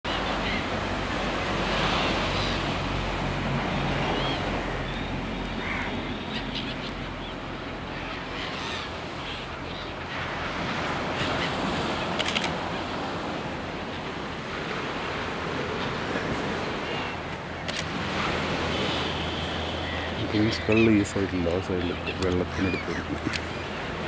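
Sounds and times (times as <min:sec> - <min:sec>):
waves washing onto sandy beach: 0:00.1 - 0:24.0.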